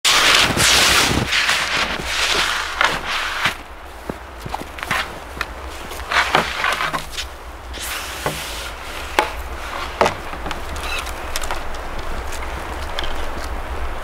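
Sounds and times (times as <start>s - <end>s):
snow crunching: 0.0s - 14.0s
wooden skis knocking: 0.1s - 12.2s.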